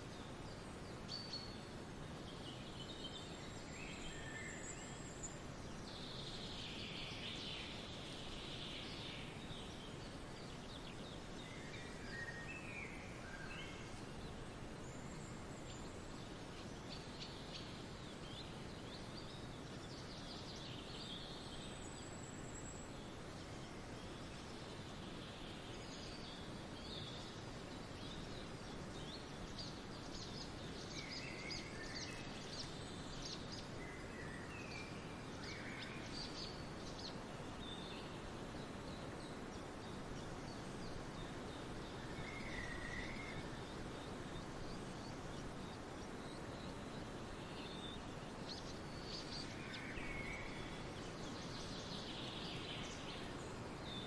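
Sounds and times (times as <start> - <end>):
songbirds chirping: 0.0 - 54.0
steady background hiss: 0.0 - 54.0.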